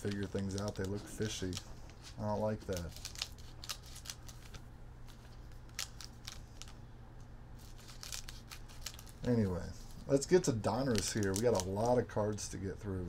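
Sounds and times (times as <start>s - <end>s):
plastic wrapper crinkling: 0.0s - 6.8s, 7.6s - 12.5s.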